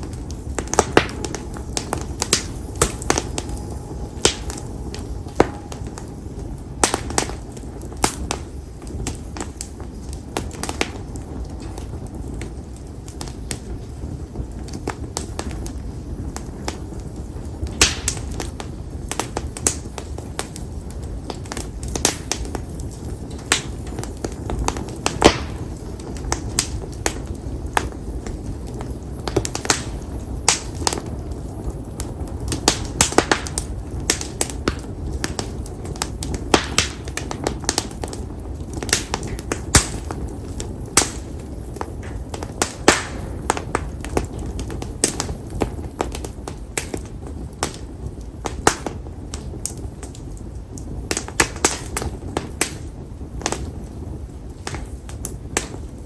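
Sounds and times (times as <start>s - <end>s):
campfire pops and crackles: 0.0s - 56.0s
rush of flame: 0.0s - 56.0s.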